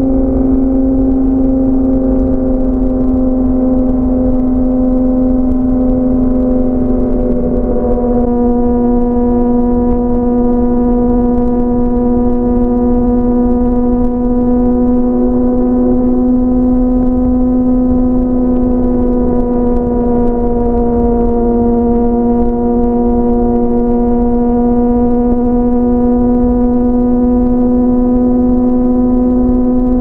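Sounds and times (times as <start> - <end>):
motorcycle engine droning: 0.0 - 30.0
wind rumble: 0.0 - 30.0.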